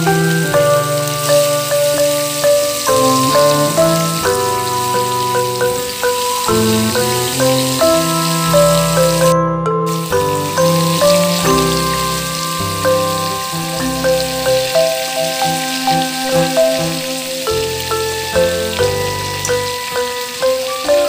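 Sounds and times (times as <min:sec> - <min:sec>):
curry sizzling in a pan: 0:00.0 - 0:09.3, 0:09.9 - 0:21.0
background music with bass line: 0:00.0 - 0:21.0.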